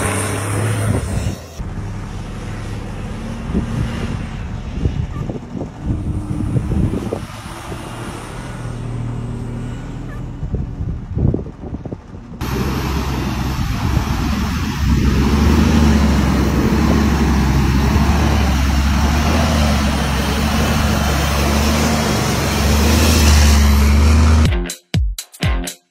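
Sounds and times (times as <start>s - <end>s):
low engine drone: 0.0s - 24.5s
rushing road and wind noise: 0.0s - 24.5s.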